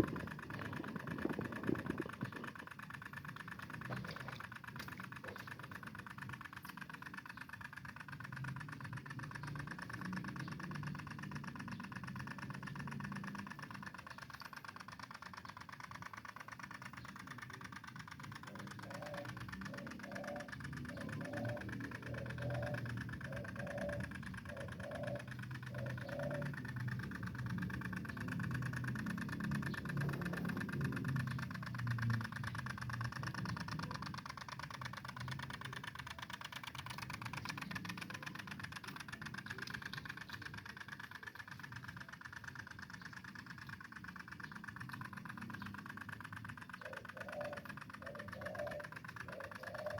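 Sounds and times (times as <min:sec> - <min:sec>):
two-stroke tiller engine running: 0:00.0 - 0:49.9.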